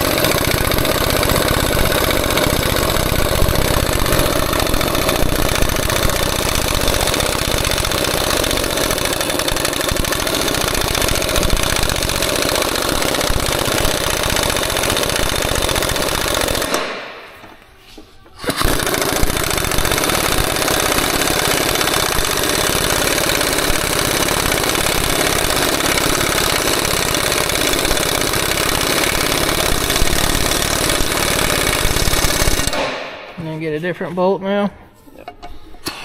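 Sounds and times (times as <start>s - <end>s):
impact wrench hammering: 0.0s - 17.6s, 18.4s - 33.7s.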